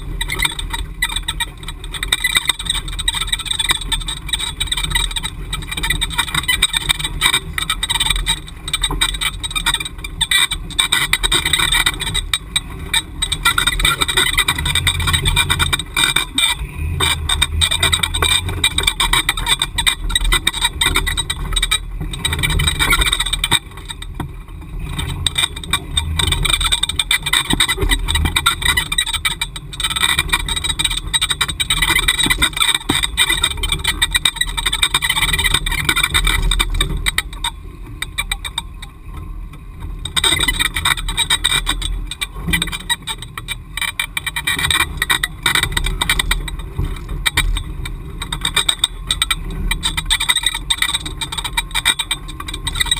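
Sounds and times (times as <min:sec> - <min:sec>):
engine low rumble: 0:00.0 - 0:52.9
rattling and crackling clatter: 0:00.0 - 0:52.9.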